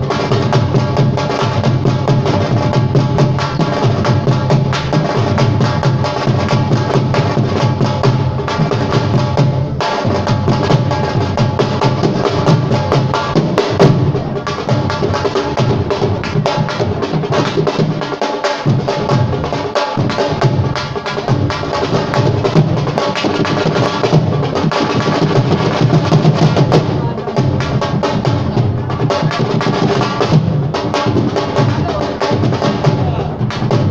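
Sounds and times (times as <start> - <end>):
rapid drum strokes: 0.0 - 33.9.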